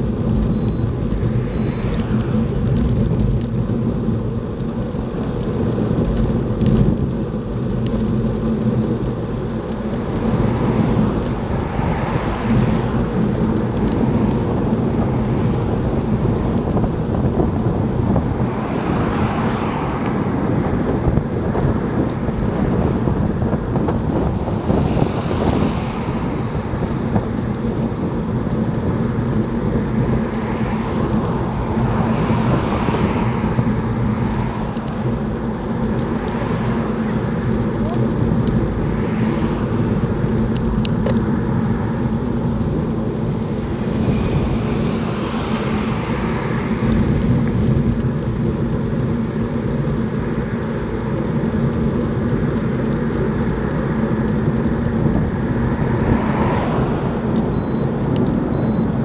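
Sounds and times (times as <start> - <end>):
traffic passing: 0.0 - 59.0
wind rumble on microphone: 0.0 - 59.0.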